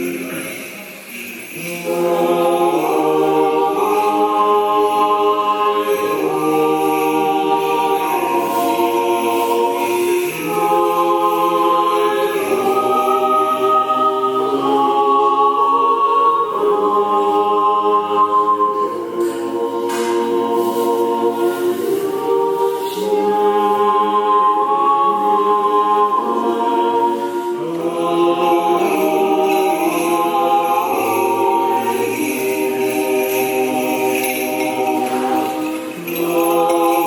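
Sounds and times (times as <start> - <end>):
choir singing a cappella chant: 0.0 - 37.0.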